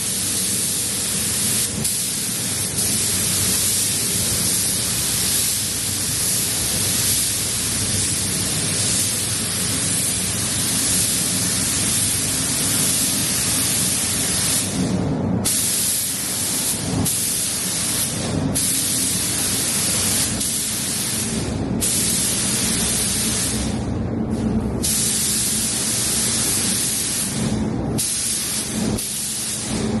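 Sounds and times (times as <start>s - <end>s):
spray gun hissing: 0.0s - 23.8s, 24.8s - 30.0s
steady low hum: 0.0s - 30.0s.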